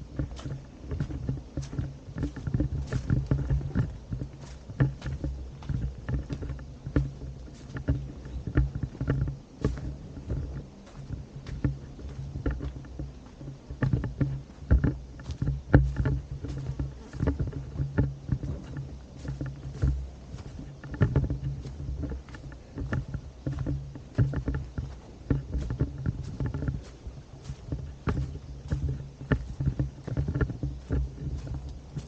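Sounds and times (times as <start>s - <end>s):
footsteps on a path: 0.0s - 32.0s
low rumble on microphone: 0.0s - 32.0s.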